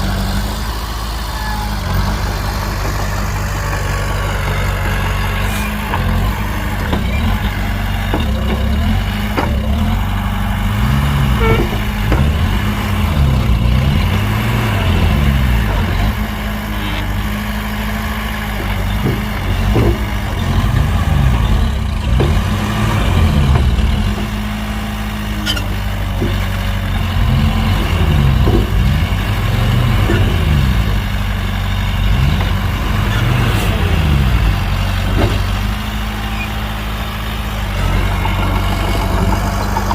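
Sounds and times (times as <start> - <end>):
heavy diesel engine revving: 0.0 - 39.9
clanks and knocks: 2.7 - 24.6, 25.4 - 33.4, 34.8 - 36.6, 37.4 - 39.9.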